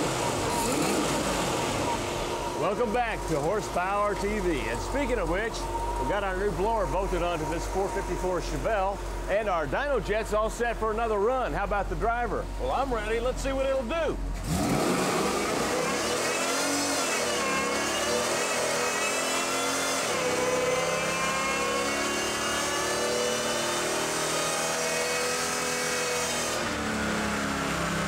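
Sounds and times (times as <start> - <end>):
engine revving at full throttle: 0.0 - 9.2, 14.4 - 28.0.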